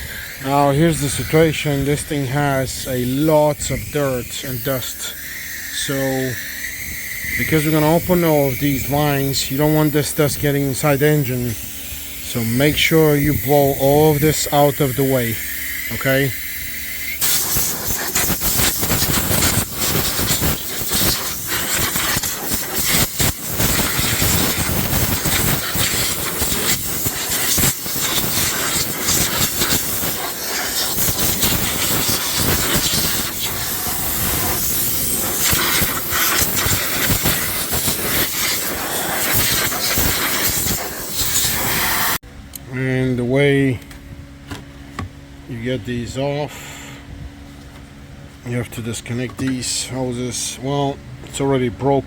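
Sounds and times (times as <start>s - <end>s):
compressed air hissing from blow gun: 0.0s - 42.2s.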